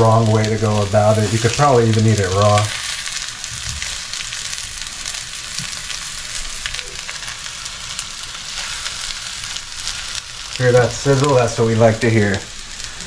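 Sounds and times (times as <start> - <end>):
patties sizzling in oil: 0.0 - 13.0.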